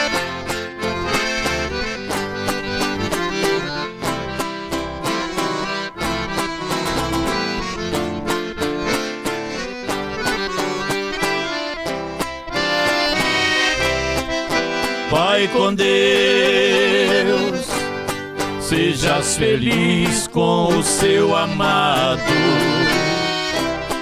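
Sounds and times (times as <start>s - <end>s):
accordion melody: 0.0s - 24.0s
plucked string accompaniment: 0.0s - 24.0s.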